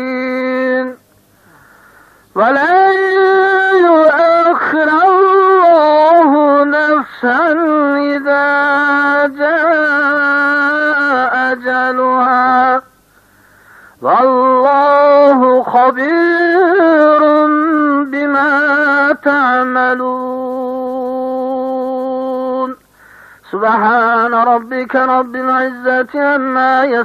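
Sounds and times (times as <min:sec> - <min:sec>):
melodic recitation voice: 0:00.0 - 0:01.0, 0:02.3 - 0:13.1, 0:14.0 - 0:27.0.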